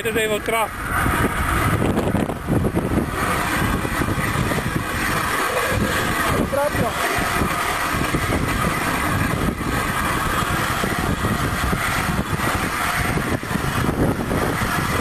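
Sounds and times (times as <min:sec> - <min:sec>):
wheels rumbling on steel rails: 0:00.0 - 0:15.0.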